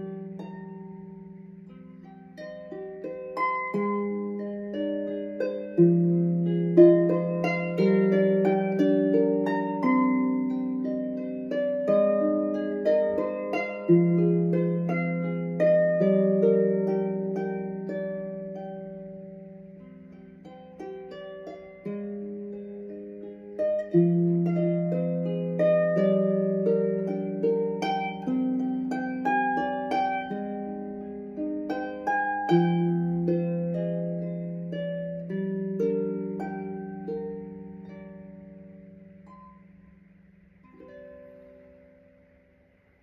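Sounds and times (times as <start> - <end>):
harp plucked notes: 0.0 - 42.4.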